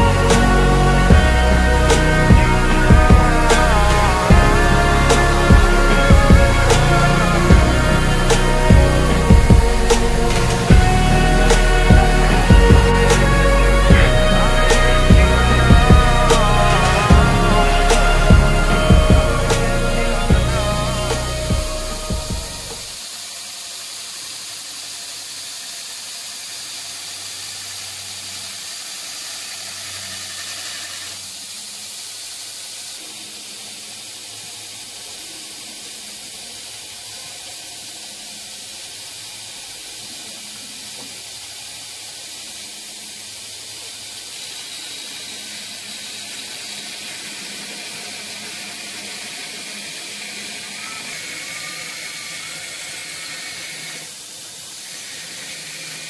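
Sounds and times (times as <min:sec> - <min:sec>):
belt grinder hissing: 0:00.0 - 0:56.0.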